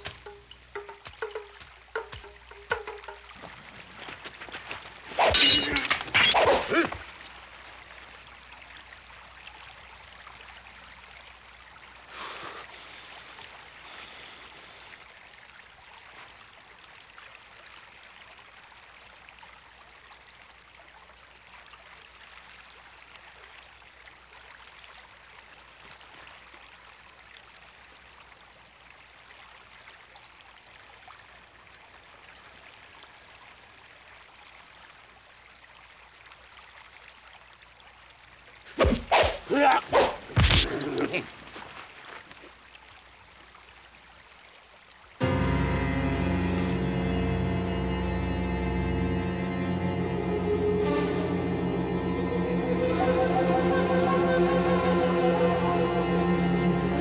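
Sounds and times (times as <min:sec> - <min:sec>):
stream flowing over stones: 0:00.0 - 0:47.5.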